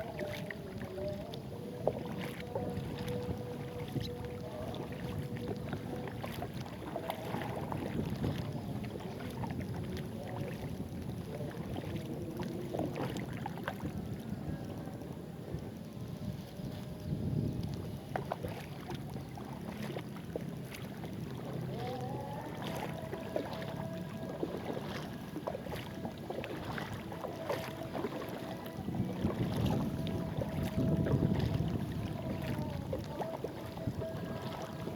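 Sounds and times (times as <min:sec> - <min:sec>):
water splashing around kayak: 0:00.0 - 0:34.9
wind on microphone: 0:00.0 - 0:34.9.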